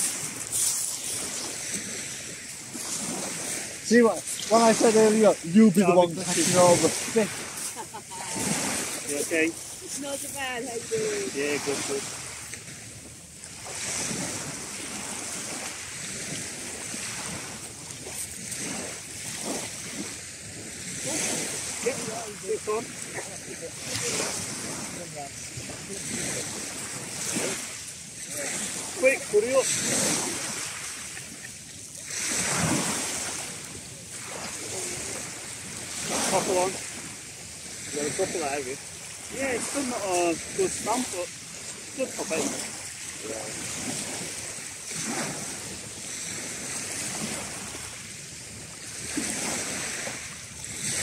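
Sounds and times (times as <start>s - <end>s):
waves washing onto shingle: 0.0s - 51.0s
wind on microphone: 0.0s - 51.0s.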